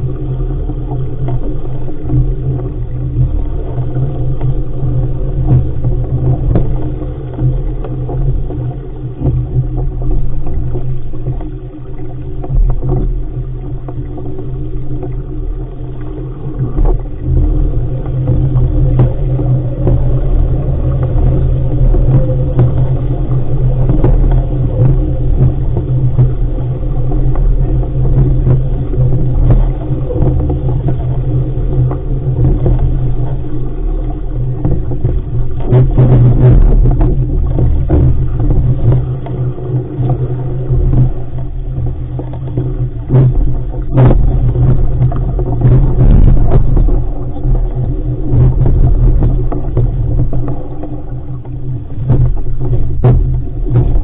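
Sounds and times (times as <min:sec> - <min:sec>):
water rushing along hull: 0:00.0 - 0:54.0
waves slapping hull: 0:00.0 - 0:54.0
wind rumbling on microphone: 0:00.0 - 0:54.0.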